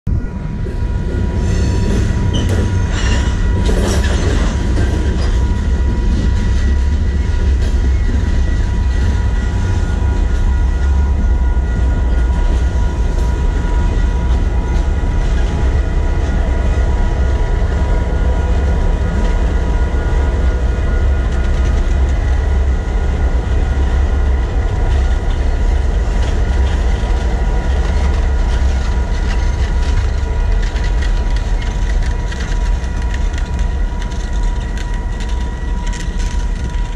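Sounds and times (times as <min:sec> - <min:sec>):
steady high tone: 0:00.1 - 0:30.5
train rumbling over crossing: 0:00.1 - 0:36.9
wheel clatter and clanks: 0:00.9 - 0:17.0, 0:23.4 - 0:36.9.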